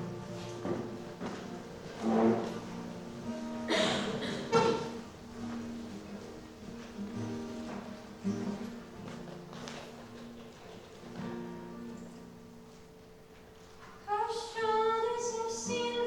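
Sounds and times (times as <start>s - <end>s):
quiet guitar picking: 0.0s - 16.0s.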